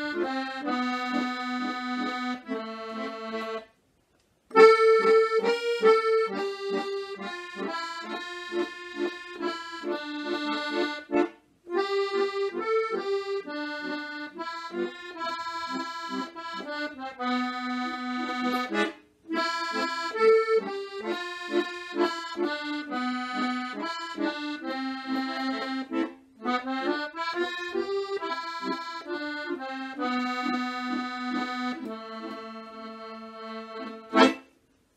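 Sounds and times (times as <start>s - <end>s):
accordion melody: 0.0s - 3.8s, 4.5s - 34.6s.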